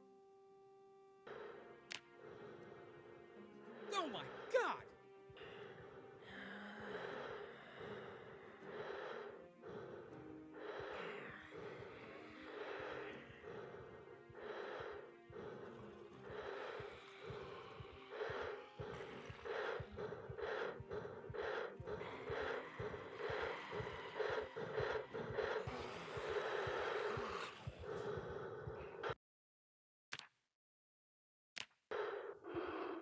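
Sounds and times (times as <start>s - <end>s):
raspy breathing through gas mask: 1.2s - 29.2s, 31.9s - 33.0s.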